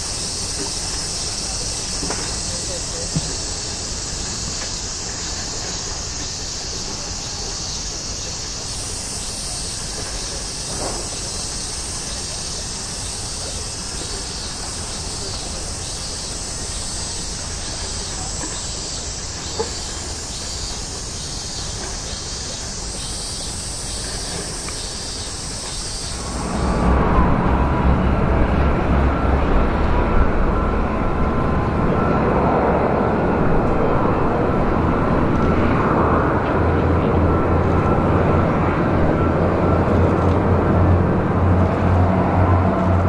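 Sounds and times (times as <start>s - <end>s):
insects chirring: 0.0s - 40.1s
distant jet engine rumble: 0.0s - 43.0s.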